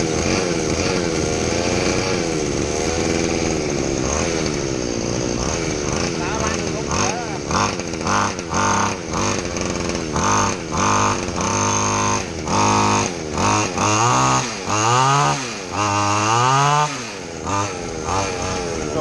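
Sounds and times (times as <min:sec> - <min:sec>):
two-stroke engine revving: 0:00.0 - 0:19.0.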